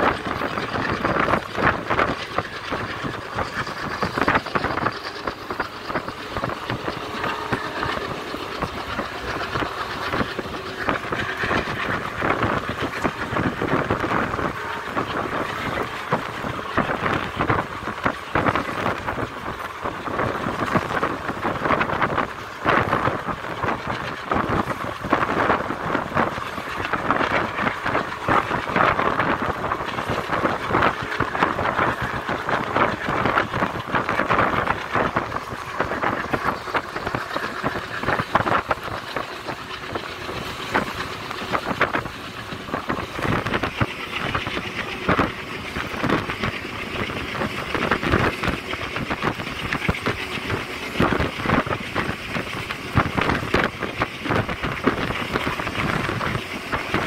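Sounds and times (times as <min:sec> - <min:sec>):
steady rushing noise: 0:00.0 - 0:57.0
train rattle and clatter: 0:00.0 - 0:57.0.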